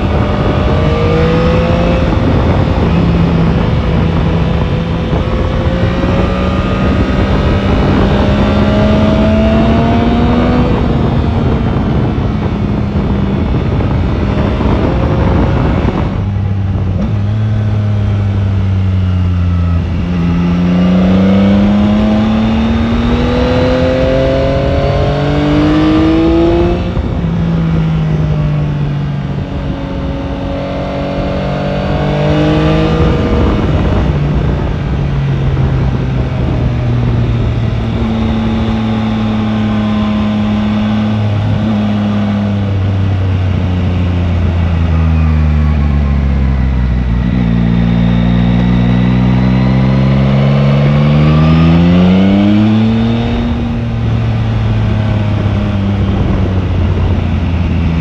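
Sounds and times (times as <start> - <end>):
wind rushing: 0.0 - 18.9, 19.7 - 45.5, 46.1 - 58.0
motorcycle engine accelerating: 0.0 - 58.0.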